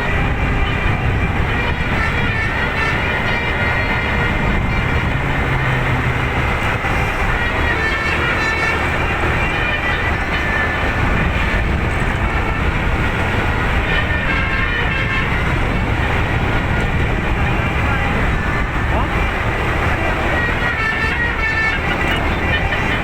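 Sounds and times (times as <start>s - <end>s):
musical air horn melody: 0.0s - 23.0s.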